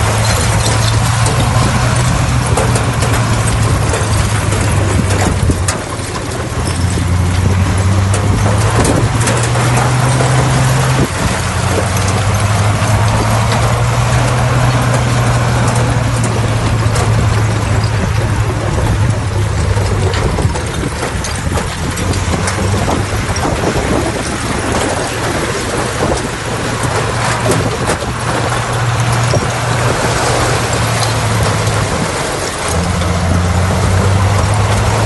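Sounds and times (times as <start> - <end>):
bulldozer diesel engine running: 0.0 - 35.0
dense machine rattling: 0.0 - 35.0.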